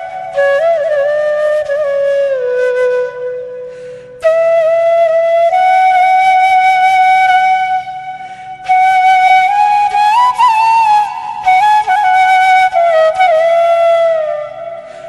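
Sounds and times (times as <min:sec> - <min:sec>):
flute playing long notes: 0:00.0 - 0:15.0.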